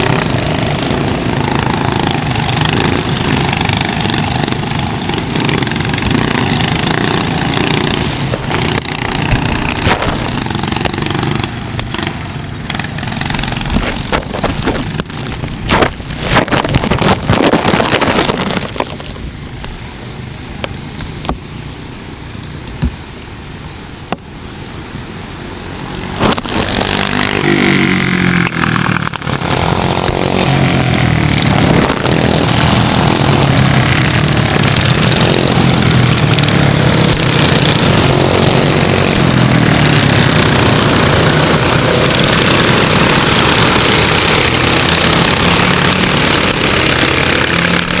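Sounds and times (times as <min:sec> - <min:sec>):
go-kart engine revving: 0:00.0 - 0:19.2, 0:25.4 - 0:48.0.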